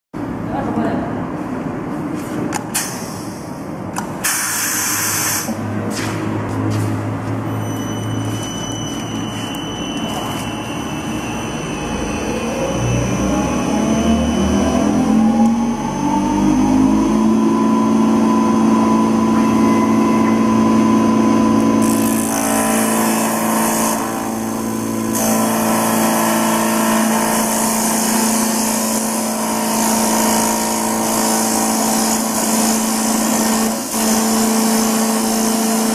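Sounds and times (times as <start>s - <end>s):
lathe motors whining and humming: 4.4s - 35.9s.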